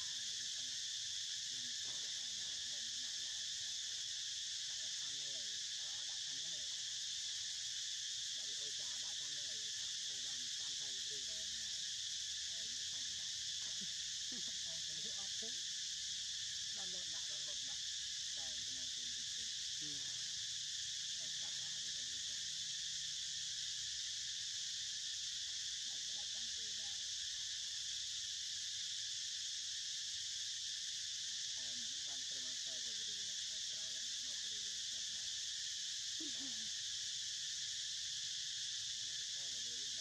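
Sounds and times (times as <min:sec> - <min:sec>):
insects singing: 0:00.0 - 0:40.0.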